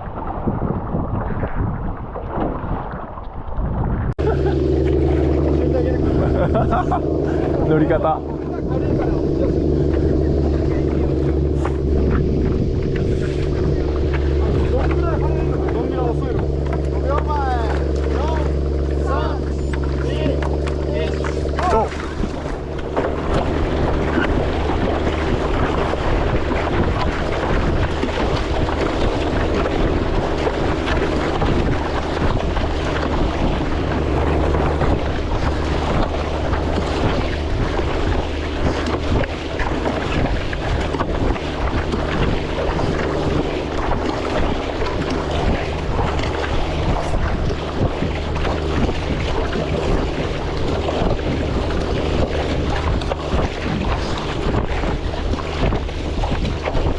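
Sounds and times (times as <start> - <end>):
sea waves: 0.0 - 56.9
wind buffeting microphone: 0.0 - 56.9.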